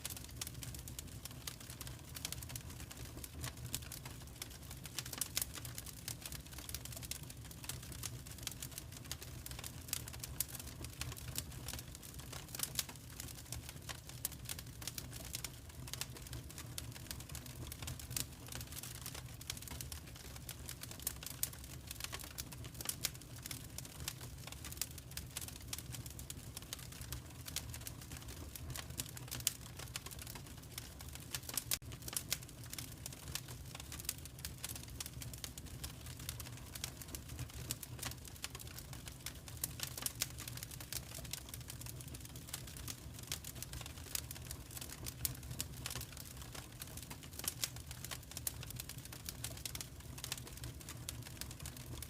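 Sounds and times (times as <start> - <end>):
fire crackling and popping: 0.0 - 52.0
low steady fire rumble: 0.0 - 52.0.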